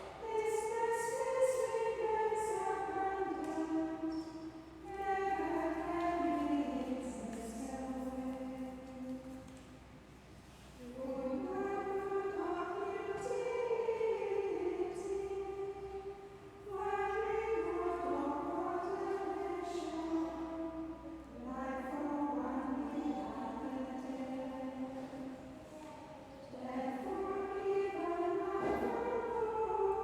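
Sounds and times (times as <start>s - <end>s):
choir singing chant: 0.2s - 8.9s, 10.9s - 25.4s, 26.4s - 30.0s.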